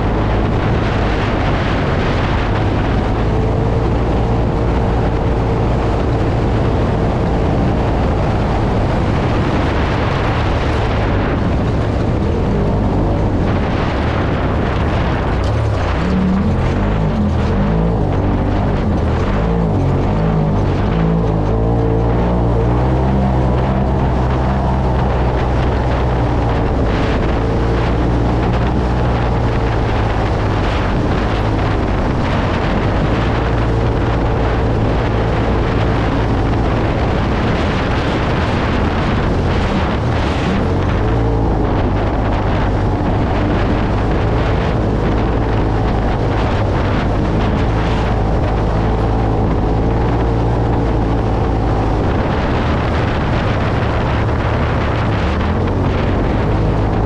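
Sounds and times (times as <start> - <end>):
utility vehicle engine running: 0.0 - 57.0
wind buffeting microphone: 0.0 - 57.0.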